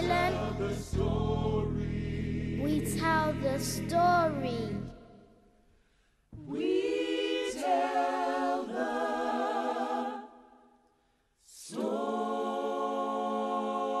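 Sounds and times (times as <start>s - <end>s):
choir singing held chords: 0.0s - 5.4s, 6.4s - 10.8s, 11.5s - 14.0s.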